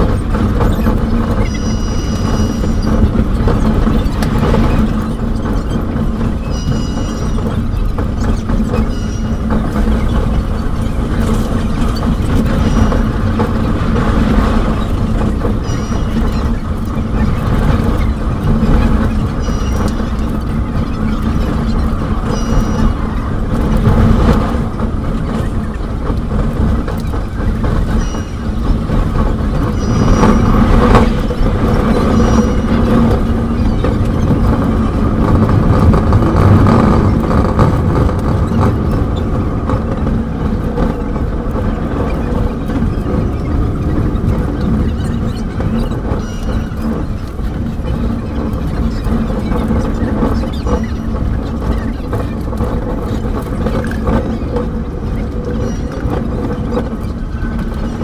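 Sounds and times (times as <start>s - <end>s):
train rumble and rattle: 0.0s - 58.0s.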